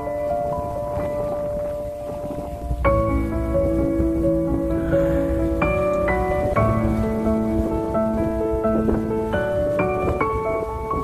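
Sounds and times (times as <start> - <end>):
slow music of long held notes: 0.0 - 11.0.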